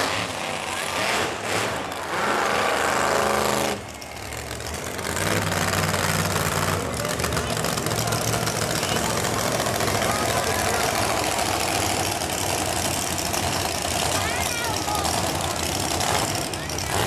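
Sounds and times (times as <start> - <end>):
truck engine running loud: 0.0 - 17.0.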